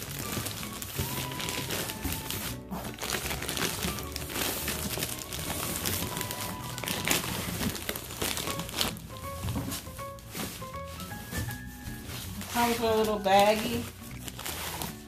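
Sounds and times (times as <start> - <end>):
background music: 0.0 - 15.0
plastic wrapping crinkling: 0.0 - 15.0.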